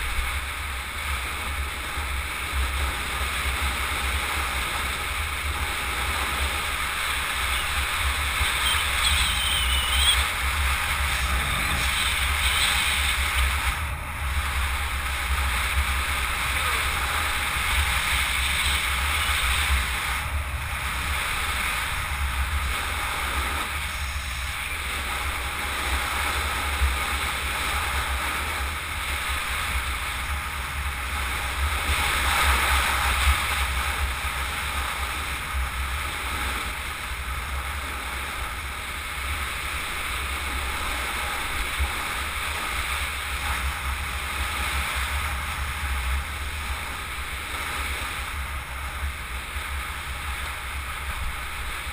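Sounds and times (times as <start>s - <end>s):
wheels hissing on asphalt: 0.0s - 51.9s
wind buffeting microphone: 0.0s - 51.9s.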